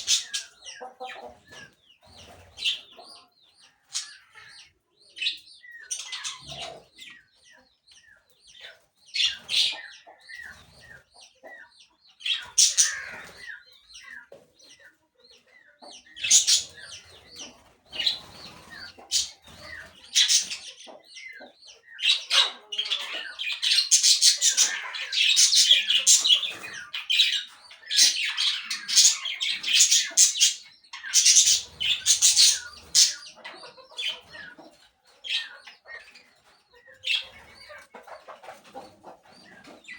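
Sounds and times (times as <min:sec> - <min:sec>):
caged birds squawking and chirping: 0:00.0 - 0:39.9.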